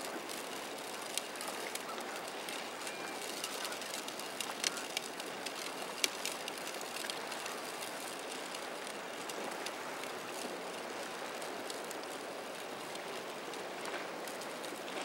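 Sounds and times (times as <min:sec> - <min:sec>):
choppy sea water around boat: 0:00.0 - 0:15.0.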